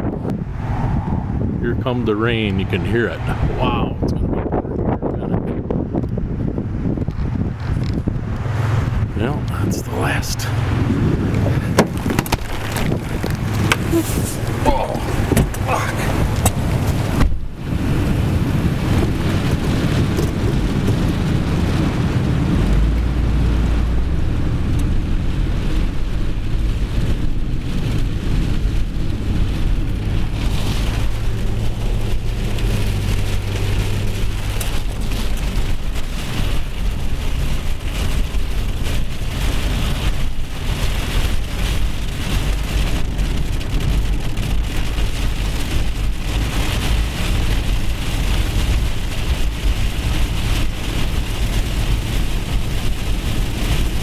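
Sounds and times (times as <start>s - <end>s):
heavy rain pouring: 7.6s - 54.0s.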